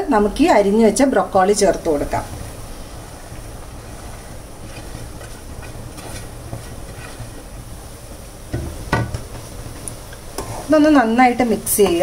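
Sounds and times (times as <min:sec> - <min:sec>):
steady low hum and hiss: 0:00.0 - 0:12.0
food rustling into a pan: 0:02.0 - 0:12.0.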